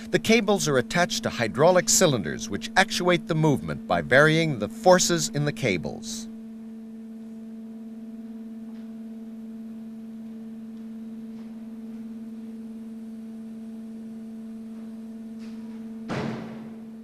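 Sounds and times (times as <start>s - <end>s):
low synthesizer drone: 0.0s - 16.1s.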